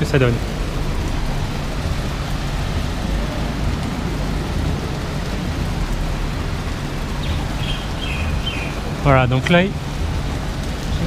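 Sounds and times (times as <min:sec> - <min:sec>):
heavy rain falling: 0:00.0 - 0:11.0
low rumble: 0:00.0 - 0:11.0.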